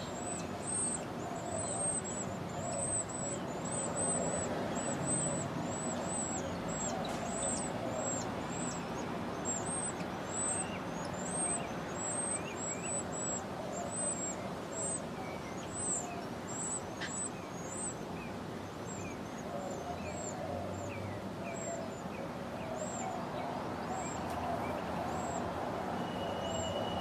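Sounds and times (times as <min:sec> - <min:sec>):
bird chirping: 0:00.0 - 0:27.0
steady background noise: 0:00.0 - 0:27.0.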